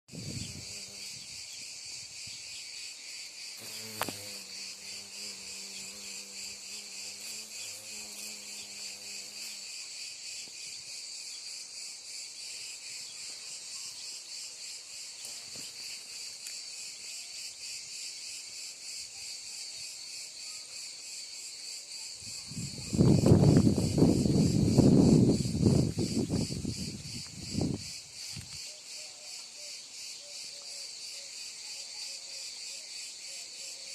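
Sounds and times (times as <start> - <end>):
insects singing: 0.1 - 33.9.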